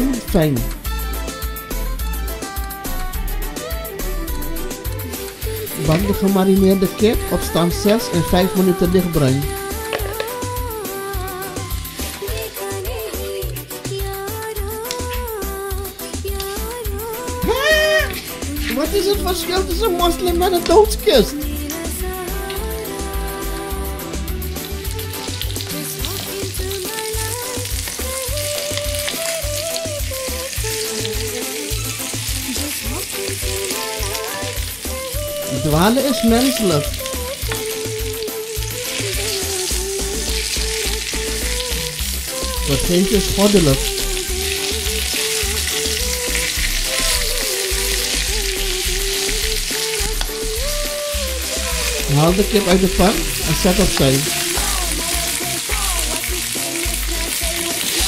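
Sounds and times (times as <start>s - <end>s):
chicken sizzling in oil: 0.0s - 58.0s
music with bass beat: 0.0s - 58.0s.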